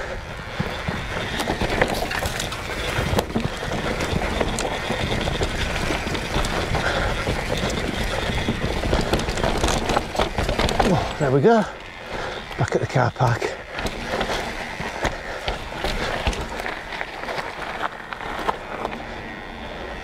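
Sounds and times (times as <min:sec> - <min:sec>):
bike rattling over bumps: 0:00.0 - 0:20.0
bike tyres rushing on dirt: 0:00.0 - 0:20.0.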